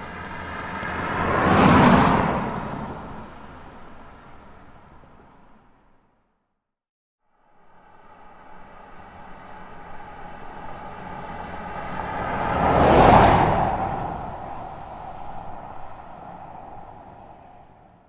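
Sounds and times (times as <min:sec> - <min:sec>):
car passing by: 0:00.0 - 0:05.8, 0:07.4 - 0:18.0.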